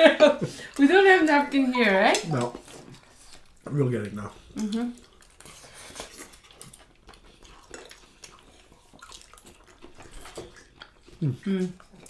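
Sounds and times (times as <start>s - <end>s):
wet chewing sounds: 0.4s - 12.0s.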